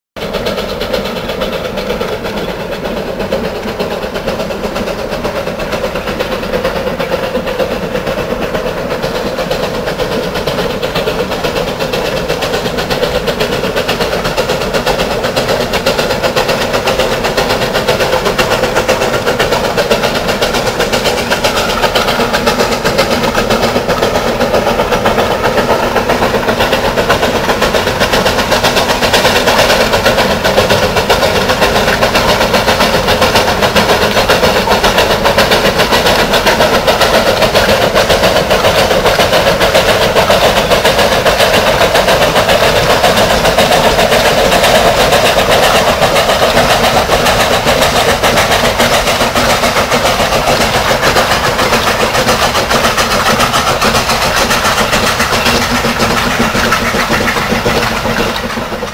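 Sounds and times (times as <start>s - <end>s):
steam locomotive chuffing: 0.2s - 58.9s.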